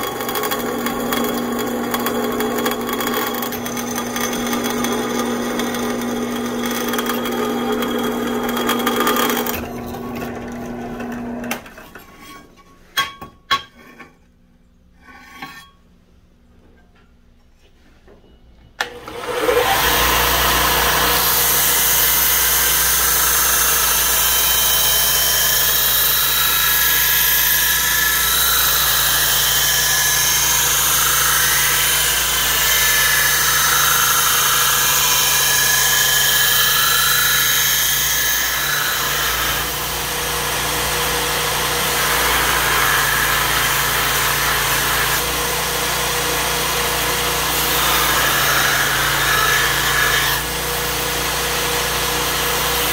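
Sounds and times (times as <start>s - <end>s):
steel grinding on abrasive belt: 0.0s - 11.5s, 19.2s - 52.9s
belt grinder motor hum: 0.0s - 11.6s, 18.8s - 52.9s.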